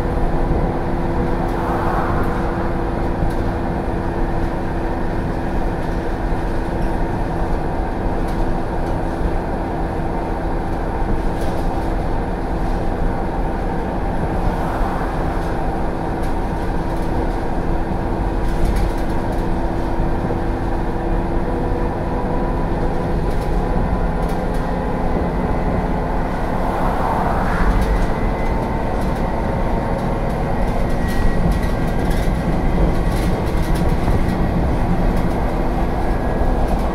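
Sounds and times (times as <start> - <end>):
bus engine droning: 0.0 - 36.9
road noise: 0.0 - 36.9.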